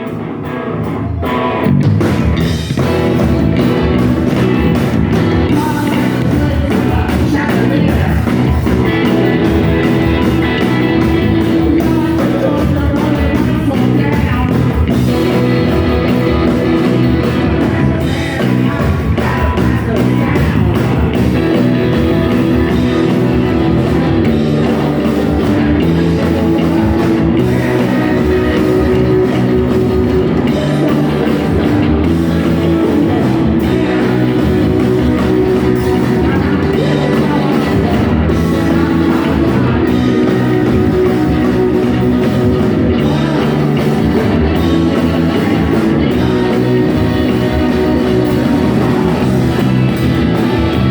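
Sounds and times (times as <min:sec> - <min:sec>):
drum kit: 0:00.0 - 0:50.9
electric guitars: 0:00.0 - 0:50.9
person singing: 0:02.8 - 0:50.9.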